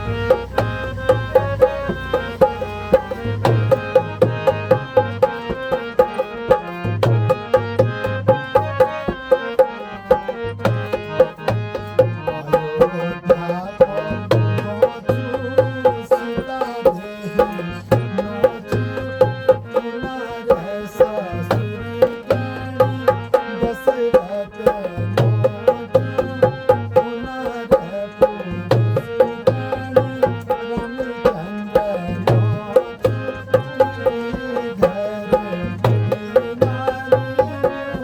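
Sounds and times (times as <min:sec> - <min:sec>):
folk instrumental music: 0:00.0 - 0:38.0
hand drum rhythm: 0:00.0 - 0:38.0.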